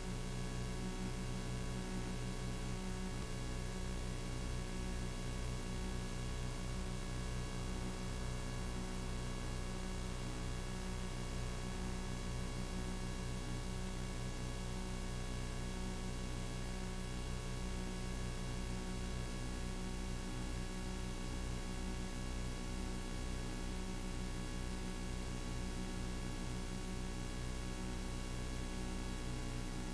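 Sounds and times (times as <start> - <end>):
electrical hum with hiss: 0.0 - 29.9.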